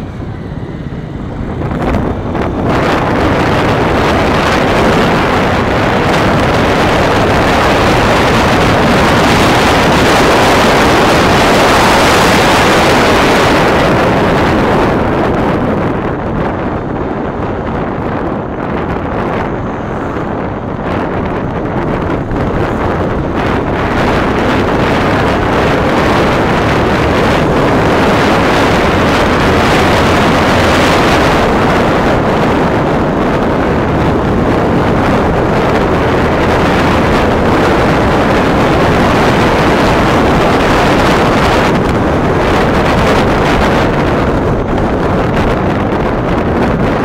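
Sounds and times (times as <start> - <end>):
motorcycle engine running: 0.0 - 47.0
wind rushing over microphone: 0.0 - 47.0.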